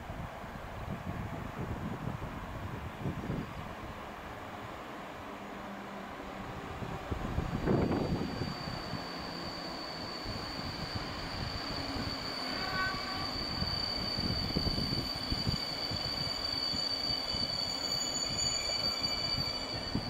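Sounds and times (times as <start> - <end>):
train wheels rumbling on rails: 0.1 - 20.0.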